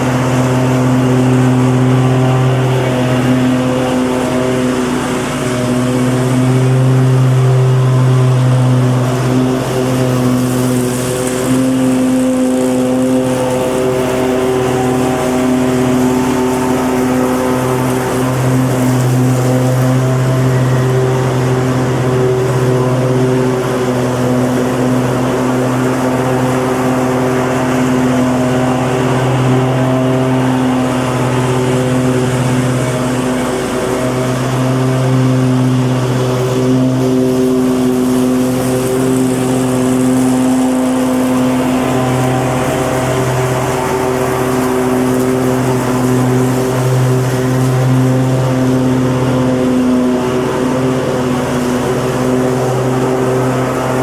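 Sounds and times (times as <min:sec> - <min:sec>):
lawnmower engine droning: 0:00.0 - 0:54.0.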